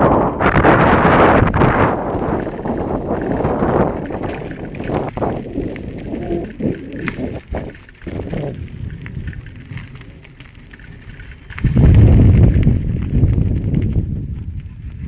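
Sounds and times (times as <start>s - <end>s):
gravel crunching: 0.0s - 15.0s
scattered ticks: 0.0s - 15.0s
wind buffeting microphone: 0.0s - 15.0s.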